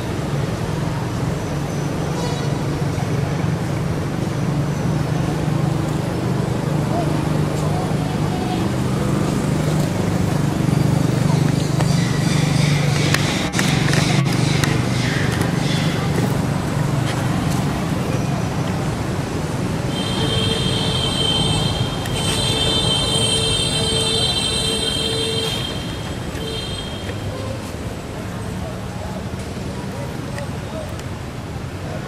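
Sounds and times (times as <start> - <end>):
road traffic rumble: 0.0 - 32.0
faint voices: 1.9 - 32.0.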